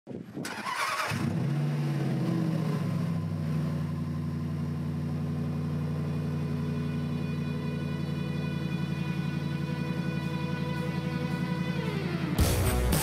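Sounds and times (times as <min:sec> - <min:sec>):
car engine starting and idling: 0:00.3 - 0:13.0.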